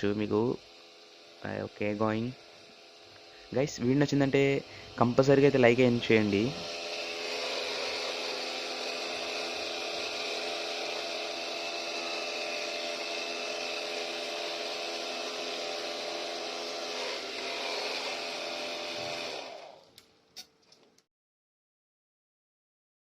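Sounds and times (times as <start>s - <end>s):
small motor fan whine: 0.0s - 20.1s.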